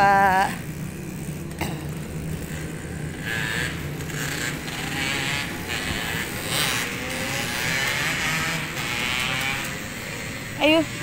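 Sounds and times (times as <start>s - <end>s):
cars passing: 0.0s - 11.0s
steady low hum: 0.0s - 11.0s.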